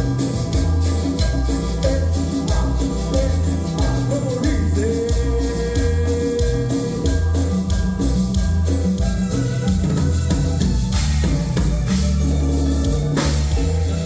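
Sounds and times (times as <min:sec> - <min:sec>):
band playing upbeat latin music: 0:00.0 - 0:14.0
cymbals: 0:00.0 - 0:14.0.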